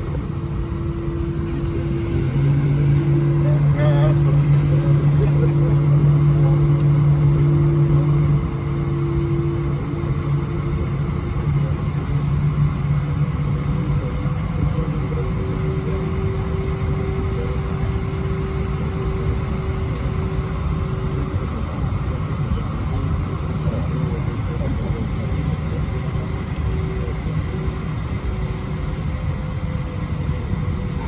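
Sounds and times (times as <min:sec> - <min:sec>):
aircraft cabin rumble: 0:00.0 - 0:31.0.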